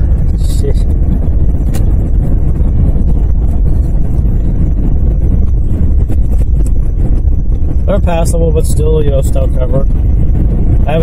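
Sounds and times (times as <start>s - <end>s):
car road and engine rumble: 0.0s - 11.0s
wind buffeting on microphone: 0.0s - 11.0s.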